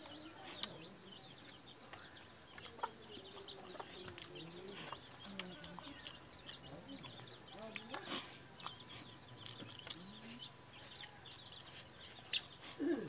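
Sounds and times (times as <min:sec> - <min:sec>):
birds chirping: 0:00.0 - 0:13.0
insects buzzing: 0:00.0 - 0:13.0.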